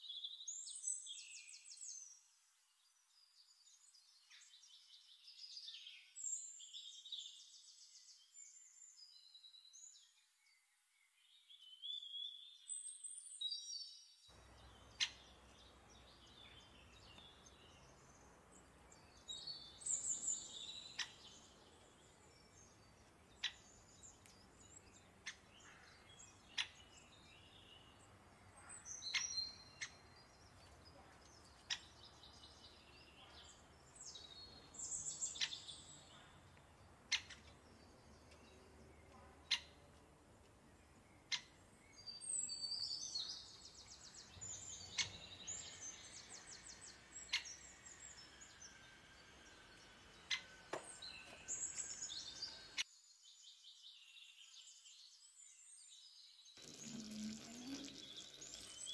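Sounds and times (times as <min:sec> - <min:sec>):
birds chirping and trilling: 0:11.3 - 0:58.9.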